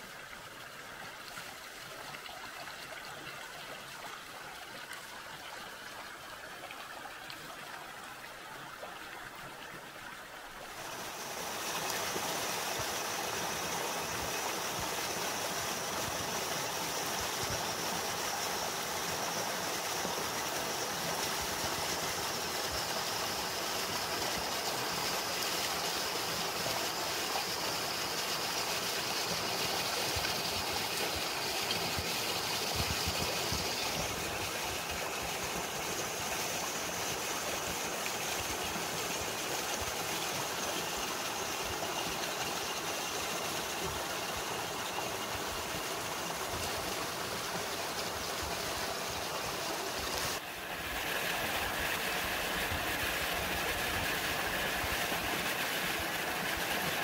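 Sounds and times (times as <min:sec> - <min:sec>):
small waterfall pouring: 0:00.0 - 0:57.0
stream rippling over rocks: 0:00.0 - 0:57.0.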